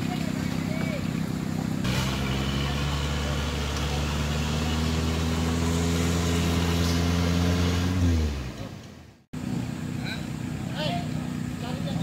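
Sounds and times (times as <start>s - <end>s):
engine running hard under load: 0.0s - 12.0s.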